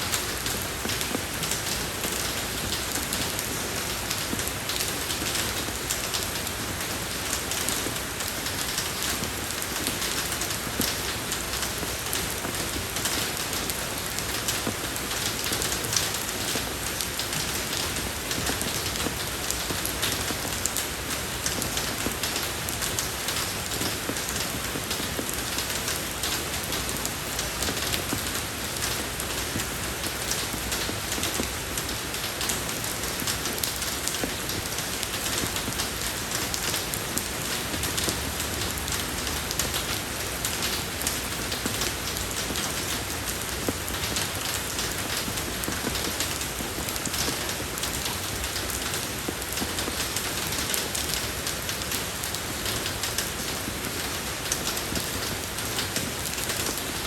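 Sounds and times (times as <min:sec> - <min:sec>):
rain falling on road: 0:00.0 - 0:57.0.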